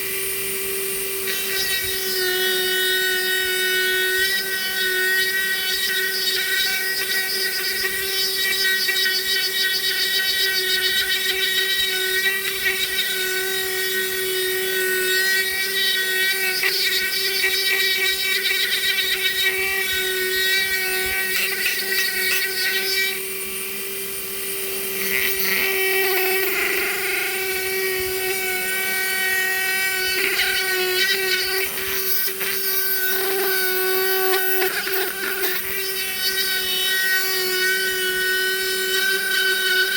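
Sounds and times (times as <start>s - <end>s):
rotary tool grinding wood: 0.0s - 39.9s.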